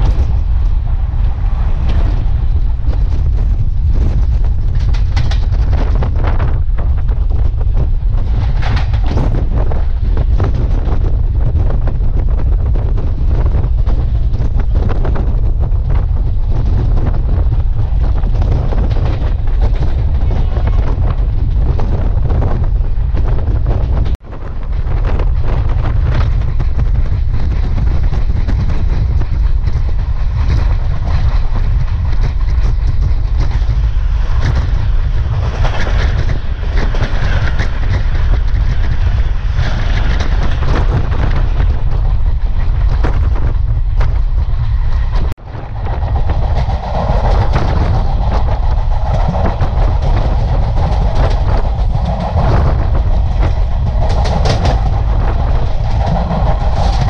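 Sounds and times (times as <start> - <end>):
passing train rush: 0.0 - 57.0
train wheels clickety-clack: 0.0 - 57.0
wind buffeting microphone: 0.0 - 57.0.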